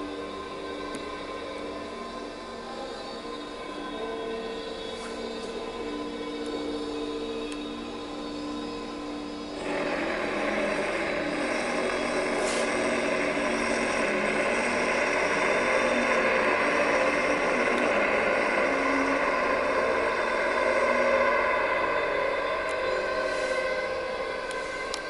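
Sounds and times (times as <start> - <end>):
noisy electronic drone: 0.0 - 25.0.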